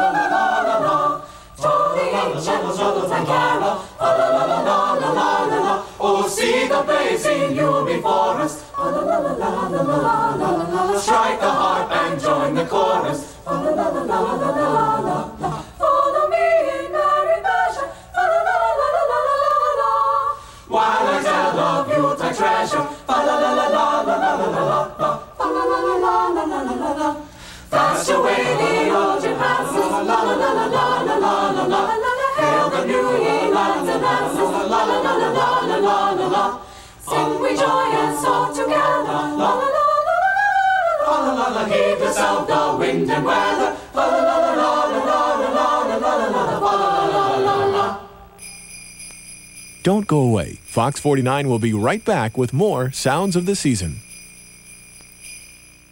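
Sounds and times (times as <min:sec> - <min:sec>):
mixed choir singing a cappella: 0:00.0 - 0:48.4.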